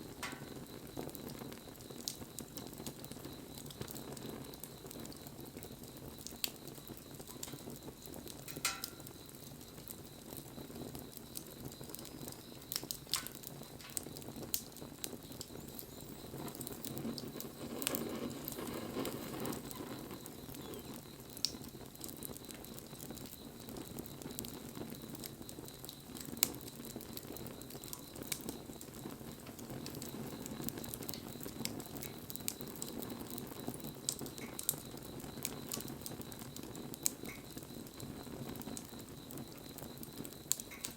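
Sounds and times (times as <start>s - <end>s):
bonfire flame rushing: 0.0s - 40.9s
fire crackling and popping: 0.0s - 40.9s.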